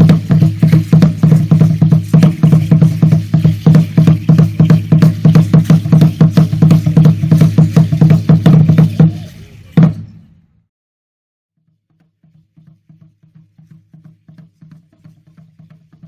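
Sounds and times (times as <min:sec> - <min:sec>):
drum beaten in fast rhythm: 0:00.0 - 0:10.2, 0:12.0 - 0:16.0.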